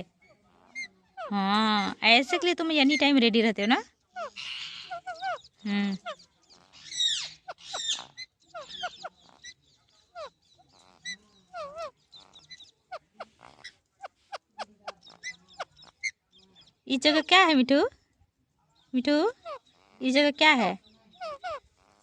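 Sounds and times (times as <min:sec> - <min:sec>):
parakeet squawking and chirping: 0:00.2 - 0:17.4, 0:19.2 - 0:22.0.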